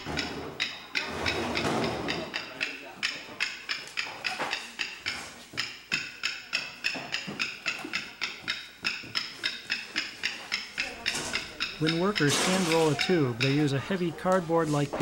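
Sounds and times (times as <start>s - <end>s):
rhythmic sharp knocking: 0.0s - 15.0s.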